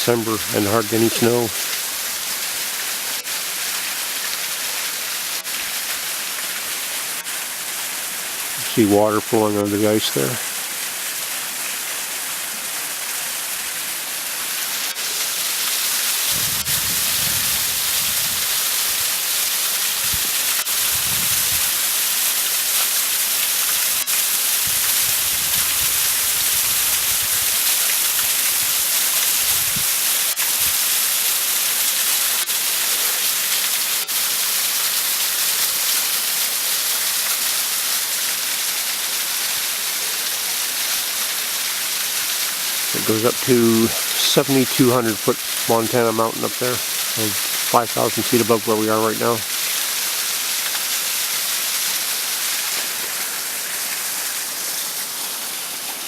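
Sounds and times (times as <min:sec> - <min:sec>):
water rushing under ice: 0:00.0 - 0:56.0.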